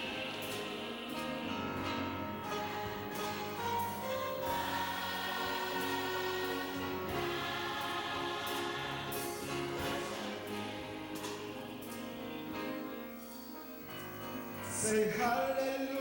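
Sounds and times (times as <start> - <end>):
instrumental accompaniment: 0.0 - 15.2
choir singing gospel: 0.0 - 16.0.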